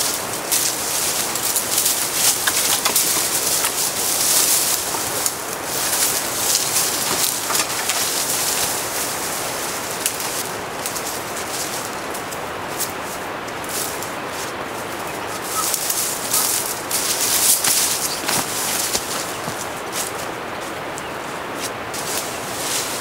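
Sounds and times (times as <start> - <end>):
rustling hiss of forest: 0.0 - 23.0.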